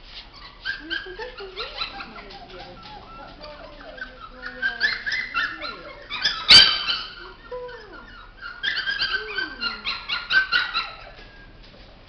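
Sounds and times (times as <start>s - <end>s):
young dog whining and yelping: 0.2s - 11.8s.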